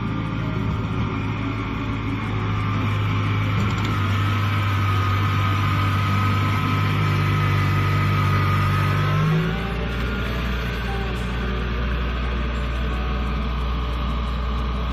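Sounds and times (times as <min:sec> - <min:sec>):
diesel engine under load: 0:00.0 - 0:14.9
high machine whine: 0:00.0 - 0:14.9.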